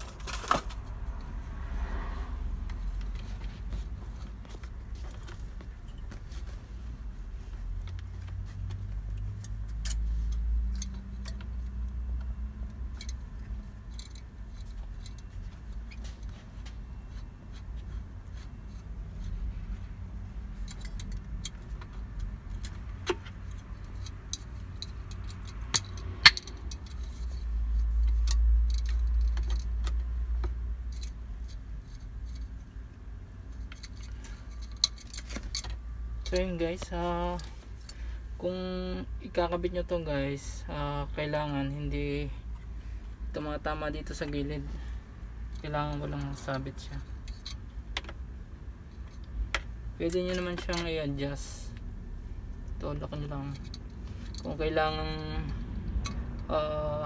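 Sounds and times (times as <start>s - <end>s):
fan motor clicks and rattles: 0.0s - 1.5s, 2.6s - 57.0s.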